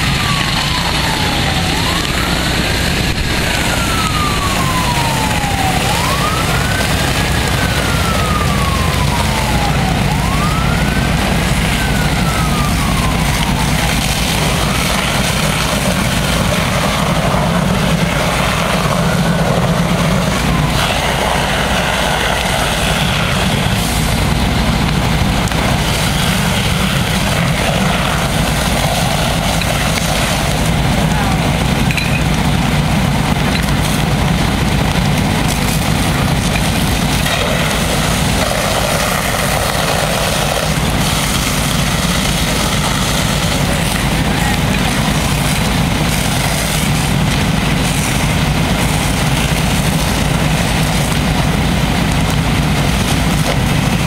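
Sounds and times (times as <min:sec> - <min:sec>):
fire engine running: 0:00.0 - 0:54.0.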